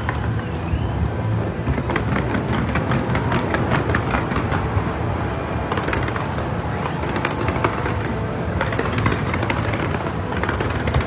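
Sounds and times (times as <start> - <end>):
fireworks crackling: 0.0 - 11.0
low rumble: 0.0 - 11.0.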